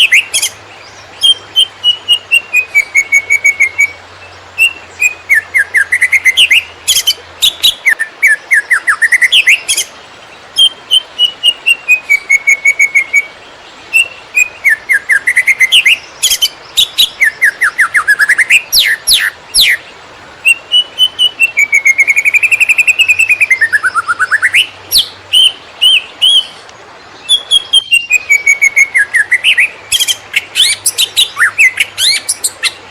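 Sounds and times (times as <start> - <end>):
bird singing rapid chirps and whistles: 0.0 - 10.0, 10.6 - 32.9.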